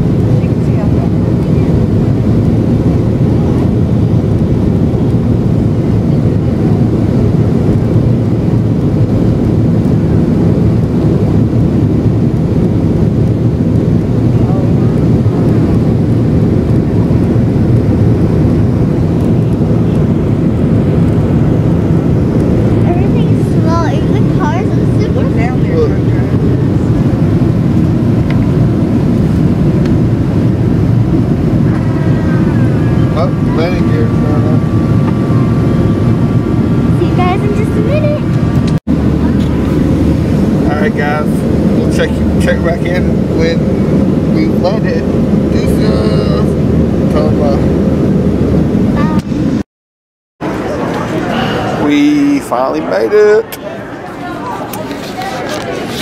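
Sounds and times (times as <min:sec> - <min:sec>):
airliner engine rumble in cabin: 0:00.0 - 0:49.6
rushing air: 0:00.0 - 0:49.6.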